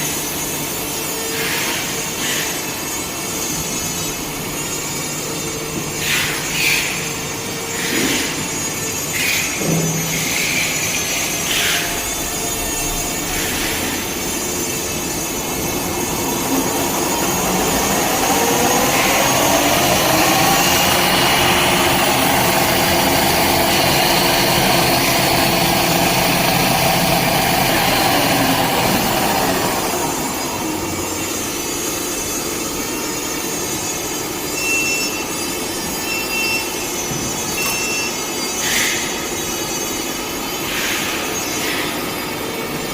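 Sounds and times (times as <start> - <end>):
machine whine: 0.0 - 42.9.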